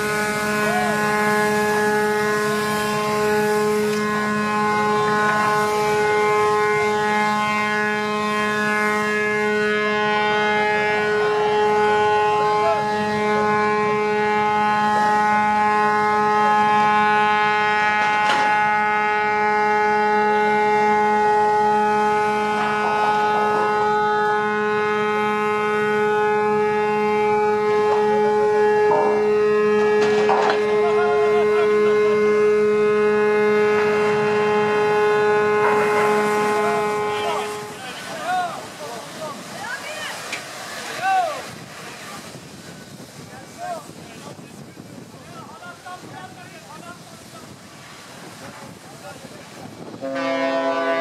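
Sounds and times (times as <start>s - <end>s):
ship's horn long blast: 0.0s - 44.4s, 45.0s - 51.0s.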